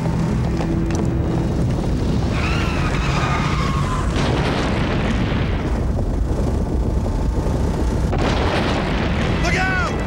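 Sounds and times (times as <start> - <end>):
low earthquake rumble: 0.0 - 10.0.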